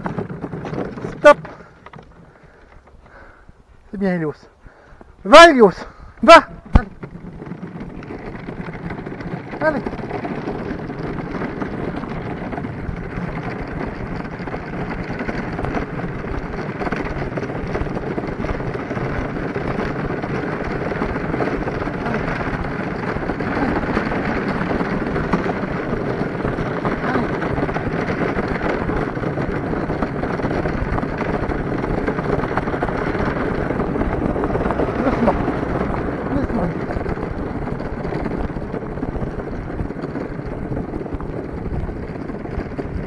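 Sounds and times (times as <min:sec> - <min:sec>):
cart wheels rolling on asphalt: 0:00.0 - 0:43.0
wind rustle on microphone: 0:00.0 - 0:43.0.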